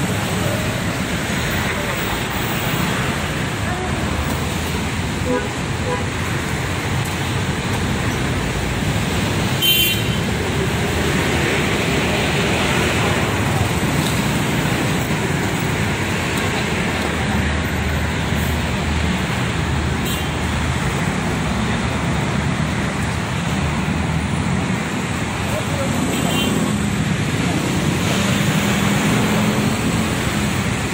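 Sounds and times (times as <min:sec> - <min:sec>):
vehicles passing on wet road: 0:00.0 - 0:30.9.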